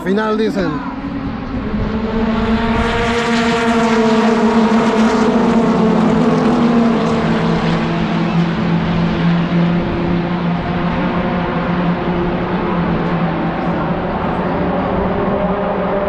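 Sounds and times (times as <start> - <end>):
race car engines droning: 0.0 - 16.0.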